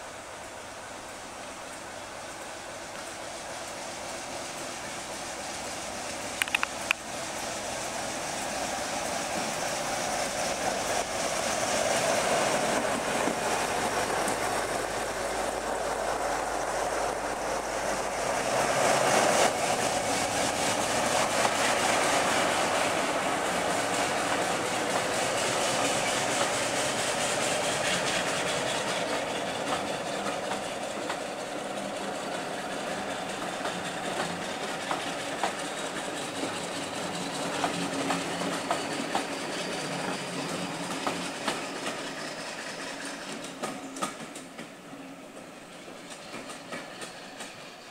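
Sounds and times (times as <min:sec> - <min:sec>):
diesel locomotive engine: 0:00.0 - 0:47.9
train wheels clicking over rail joints: 0:02.8 - 0:47.9.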